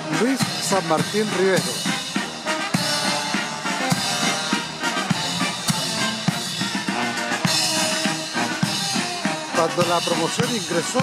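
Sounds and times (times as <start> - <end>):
bass drum and snare beating: 0.0 - 11.0
brass with sousaphones: 0.0 - 11.0
marching band playing: 0.0 - 11.0.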